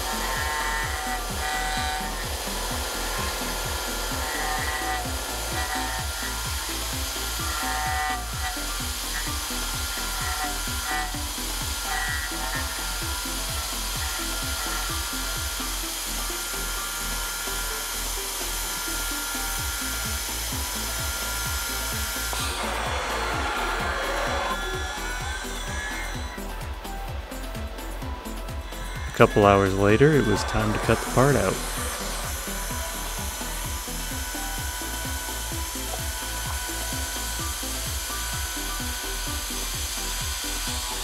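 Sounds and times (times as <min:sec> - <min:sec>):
electronic music with beat: 0:00.0 - 0:41.0
milling machine cutting metal: 0:00.0 - 0:41.0
spindle whine: 0:00.0 - 0:41.0.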